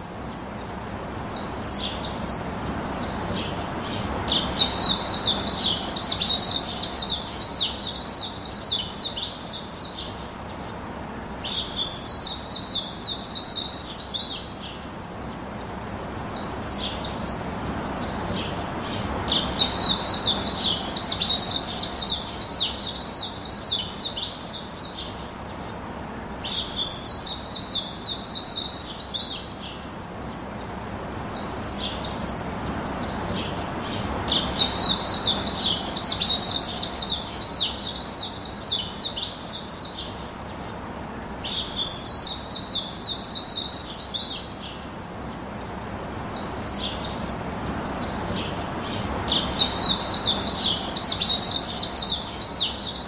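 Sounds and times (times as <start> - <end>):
background hiss: 0.0 - 53.0
songbirds twittering: 0.0 - 53.0.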